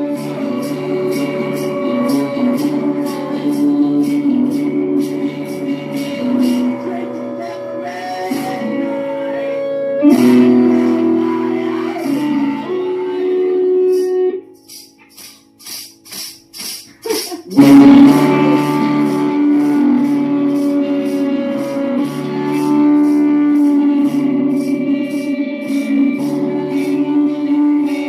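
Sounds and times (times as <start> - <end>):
sustained instrumental chords: 0.0 - 16.2, 17.5 - 28.0.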